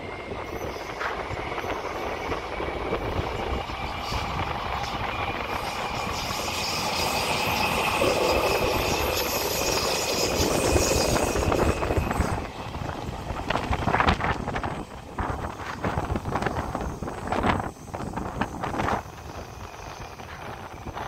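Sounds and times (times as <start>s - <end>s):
electric train on track: 0.0s - 21.0s.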